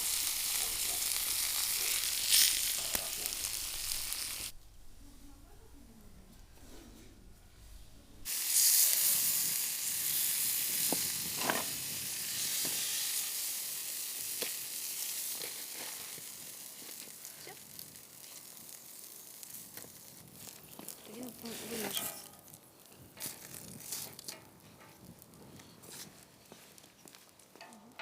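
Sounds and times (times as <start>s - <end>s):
meat sizzling on a grill: 0.0s - 4.5s, 8.3s - 27.6s.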